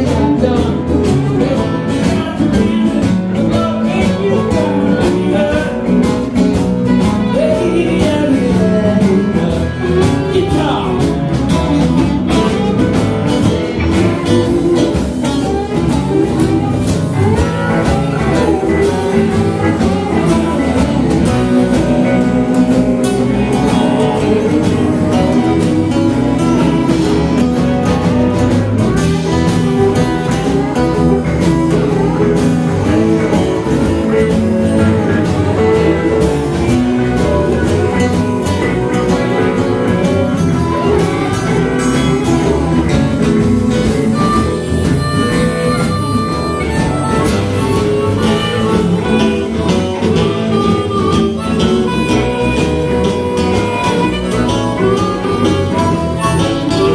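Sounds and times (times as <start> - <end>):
electric guitars: 0.0 - 56.9
harmonica through a microphone: 0.0 - 56.9
steady beat: 0.0 - 56.9.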